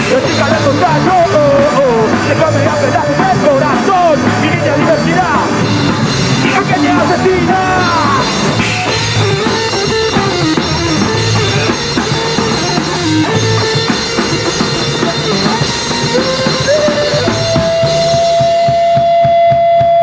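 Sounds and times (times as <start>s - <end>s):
distorted guitars and bass: 0.0s - 20.0s
drum kit: 0.0s - 20.0s
melodic lead guitar line: 0.0s - 20.0s.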